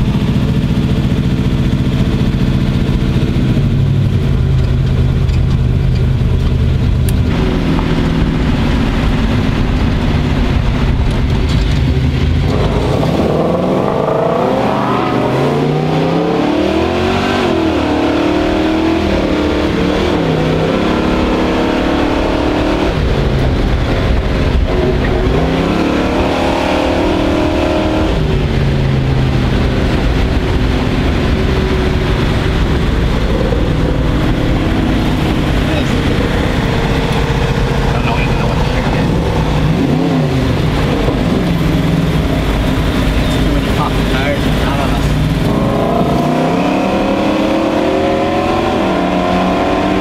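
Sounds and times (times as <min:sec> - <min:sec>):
car engine revving through gears: 0:00.0 - 0:50.0.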